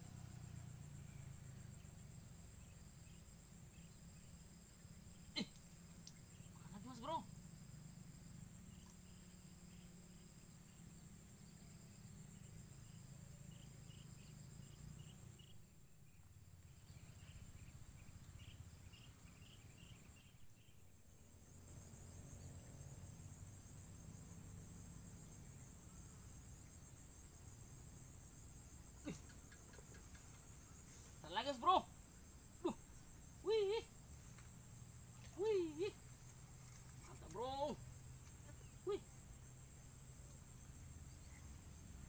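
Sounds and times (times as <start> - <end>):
crickets trilling and chirping: 0.0 - 42.0.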